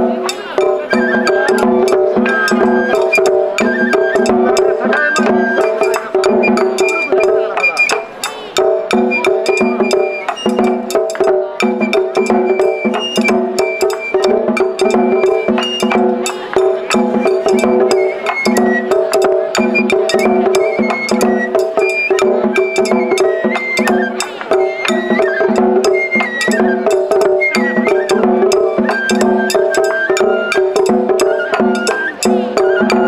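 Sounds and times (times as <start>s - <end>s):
bamboo flute: 0.0s - 33.0s
drums: 0.0s - 33.0s.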